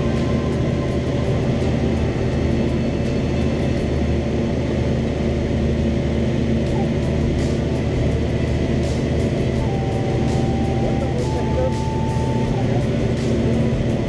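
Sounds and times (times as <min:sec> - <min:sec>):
propeller plane engine climbing: 0:00.0 - 0:14.0.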